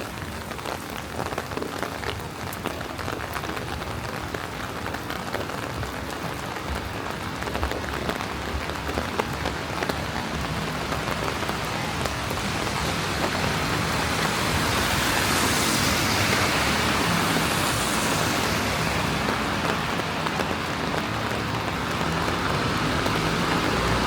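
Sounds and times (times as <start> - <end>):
rain on wet pavement: 0.0 - 24.0
tyres hissing on wet road: 0.0 - 24.0.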